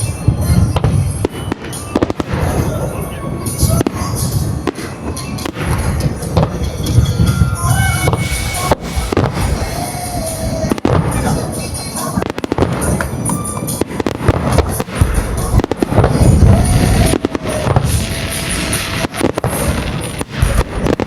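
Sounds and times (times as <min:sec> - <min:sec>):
firework booms: 0:00.0 - 0:21.0
firework crackling: 0:00.0 - 0:21.0
music: 0:00.0 - 0:21.0.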